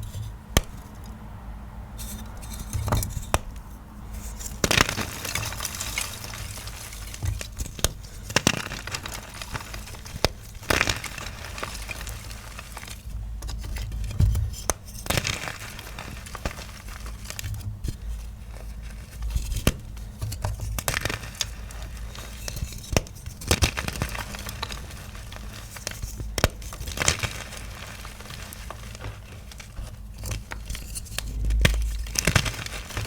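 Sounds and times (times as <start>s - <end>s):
chalk blocks crunching and cracking: 2.0s - 33.0s
dry crumbling: 2.0s - 33.0s.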